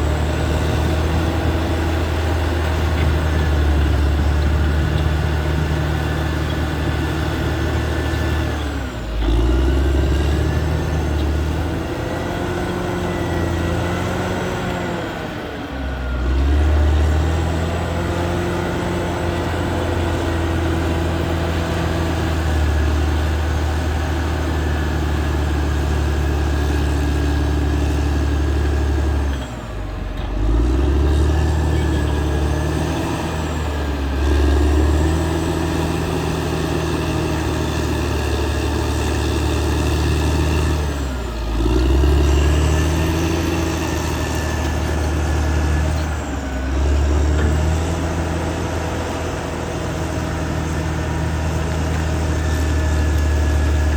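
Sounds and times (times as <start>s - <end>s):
bulldozer diesel engine running hard: 0.0s - 53.9s.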